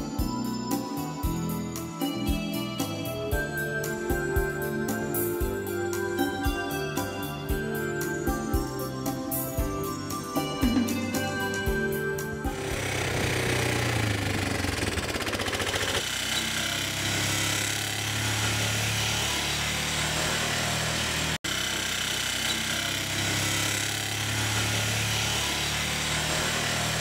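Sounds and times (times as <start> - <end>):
small motorbike engine running: 0.0 - 27.0.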